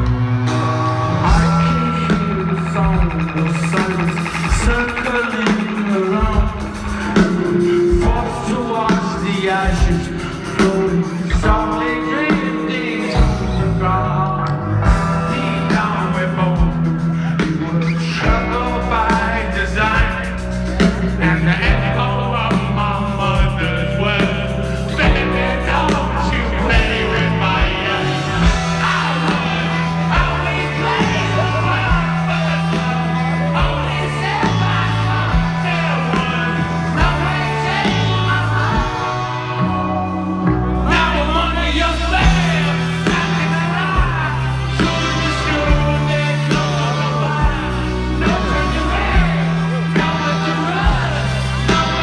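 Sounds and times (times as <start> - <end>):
bass line: 0.0 - 52.0
guitars: 0.0 - 52.0
lead singer: 0.0 - 52.0
live rock band playing: 0.0 - 52.0.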